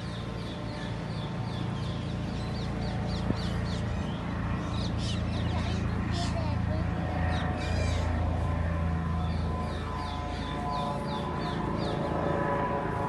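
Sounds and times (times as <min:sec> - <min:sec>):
birds chirping: 0:00.0 - 0:12.6
low outdoor hum: 0:00.0 - 0:13.0.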